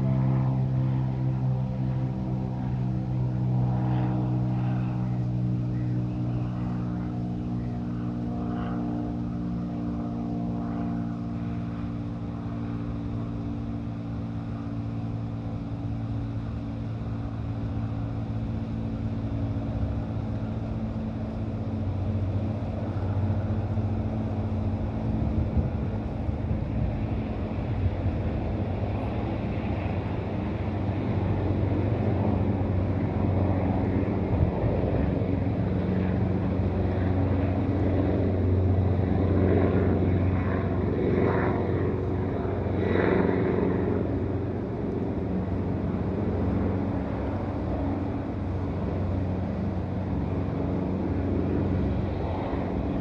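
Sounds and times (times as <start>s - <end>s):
low engine drone: 0.0s - 53.0s.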